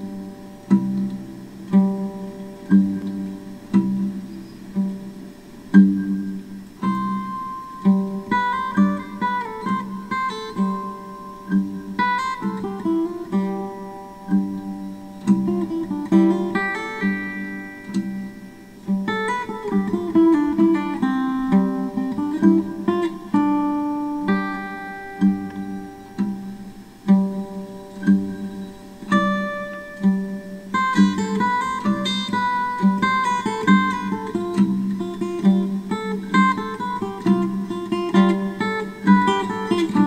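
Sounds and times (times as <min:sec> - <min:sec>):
acoustic guitar plucking and strumming: 0:00.0 - 0:40.0.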